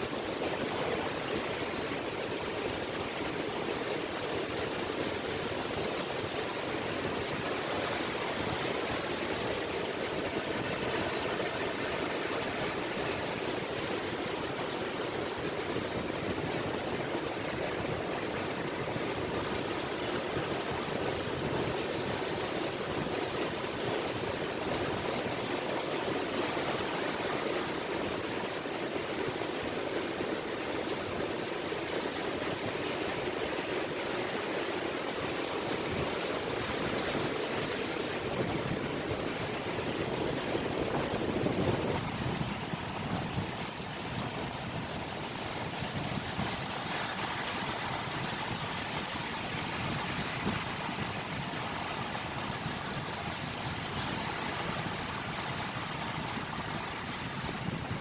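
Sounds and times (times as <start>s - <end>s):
gentle sea waves washing on shore: 0.0s - 58.0s.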